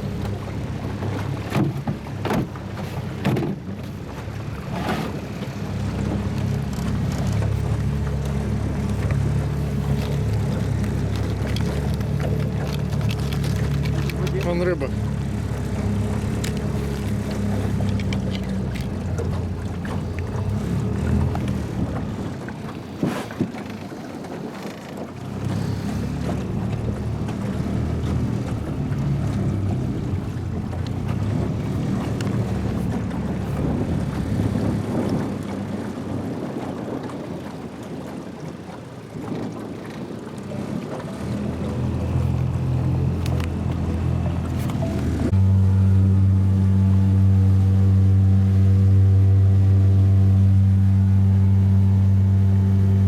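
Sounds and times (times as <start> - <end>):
small boat motor humming: 0.0 - 53.0
wind on microphone: 0.0 - 53.0.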